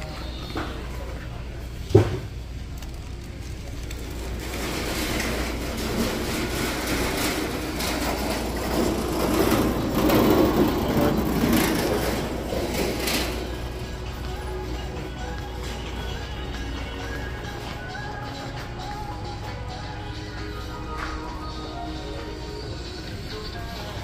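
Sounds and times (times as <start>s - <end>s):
rumbling rattling rolling noise: 0.8s - 24.0s.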